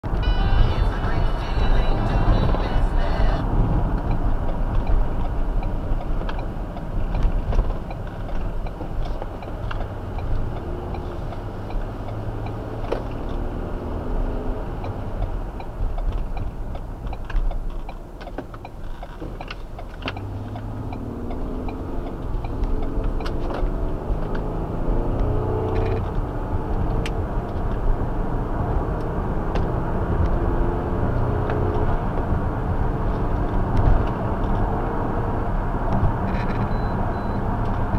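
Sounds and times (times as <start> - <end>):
car engine revving: 0.0 - 15.6, 19.9 - 37.9
road rumble: 0.0 - 37.9.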